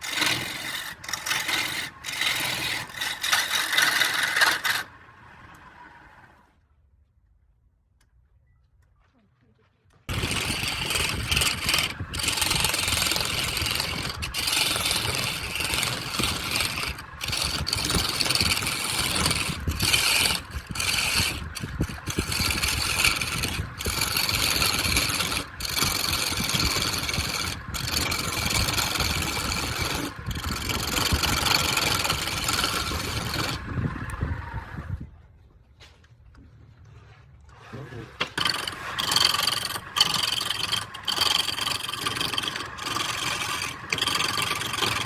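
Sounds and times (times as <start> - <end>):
power tool cutting wood: 0.0 - 5.8, 10.1 - 34.8, 37.8 - 45.0.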